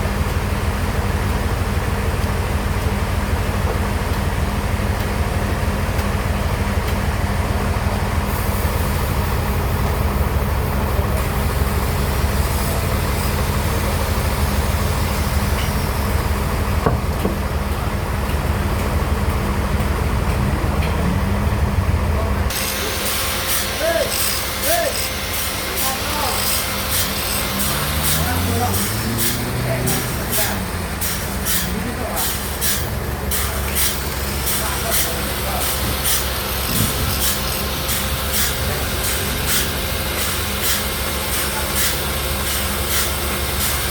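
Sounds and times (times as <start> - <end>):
bandsaw machinery humming: 0.1 - 43.9.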